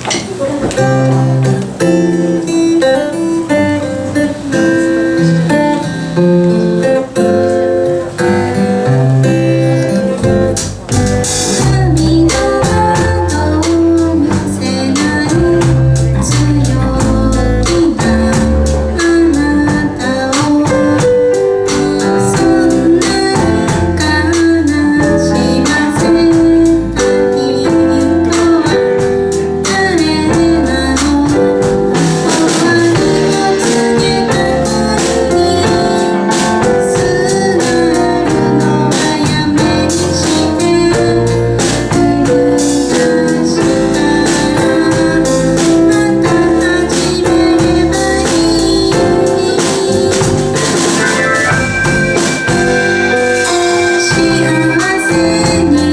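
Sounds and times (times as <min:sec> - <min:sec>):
bass and drums: 0:00.0 - 0:55.9
guitar: 0:00.0 - 0:55.9
live band playing pop song: 0:00.0 - 0:55.9.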